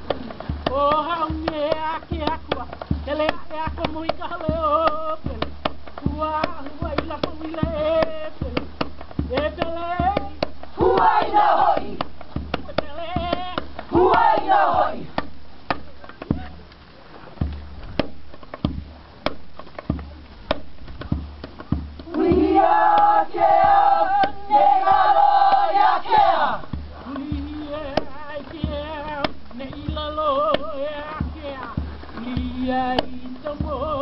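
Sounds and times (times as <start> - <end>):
struck percussion beat: 0.0 - 16.8, 17.4 - 34.0.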